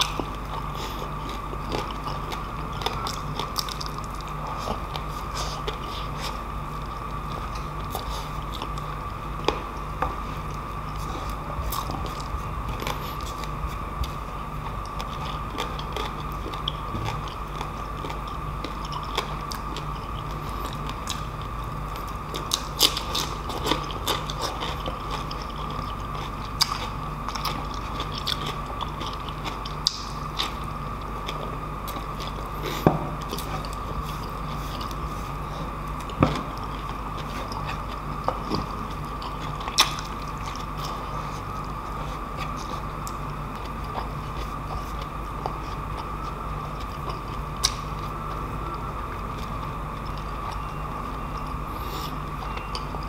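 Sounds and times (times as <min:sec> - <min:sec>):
chewing crispy skin: 0:00.0 - 0:53.0
steady background hum: 0:00.0 - 0:53.0.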